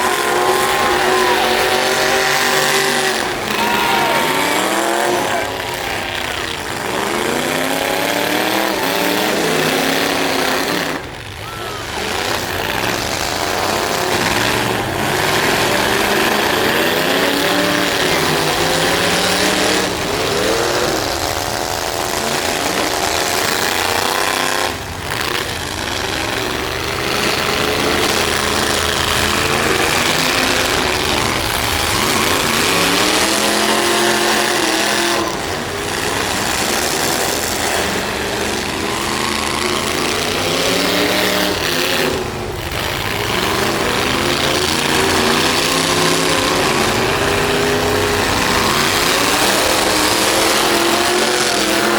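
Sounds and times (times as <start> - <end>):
truck engines revving hard: 0.0 - 51.9.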